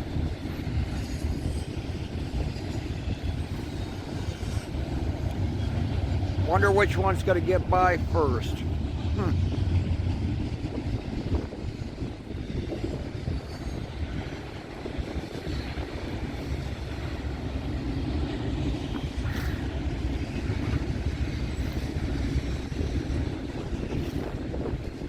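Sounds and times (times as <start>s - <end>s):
freight train rumbling on rails: 0.0s - 25.0s.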